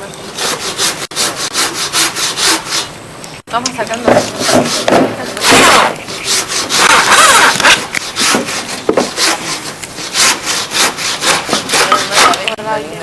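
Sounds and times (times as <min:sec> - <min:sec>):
hand tool rasping wood: 0:00.4 - 0:02.9, 0:04.0 - 0:12.6.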